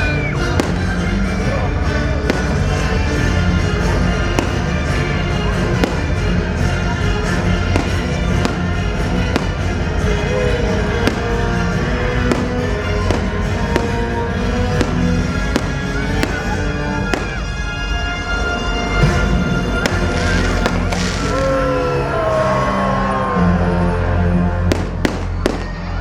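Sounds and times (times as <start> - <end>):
loud show music: 0.0 - 26.0
firework bangs: 0.4 - 1.4, 2.1 - 17.9, 18.7 - 21.6, 24.7 - 26.0.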